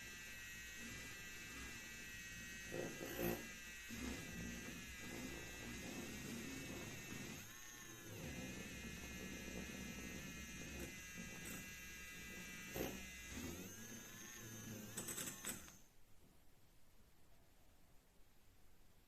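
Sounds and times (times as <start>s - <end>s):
milk frother motor whirring: 0.0s - 15.9s.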